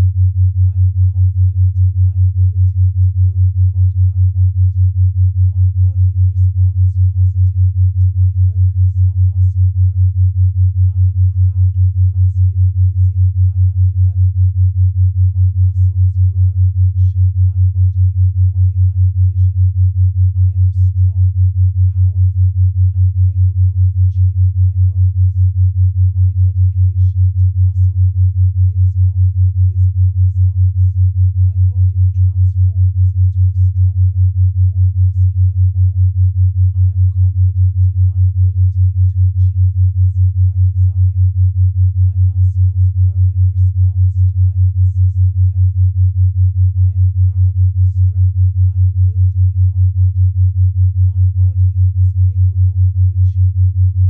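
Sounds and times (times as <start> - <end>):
pulsing low sine tone: 0.0 - 54.0.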